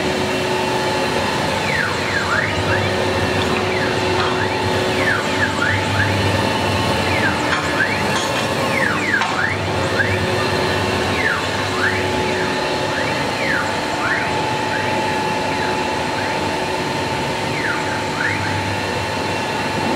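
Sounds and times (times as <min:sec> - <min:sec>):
cnc router whine: 0:00.0 - 0:19.9.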